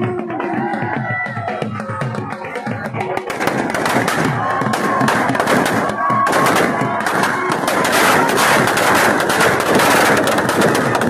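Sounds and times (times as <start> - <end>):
firecrackers banging and crackling: 2.0 - 11.0.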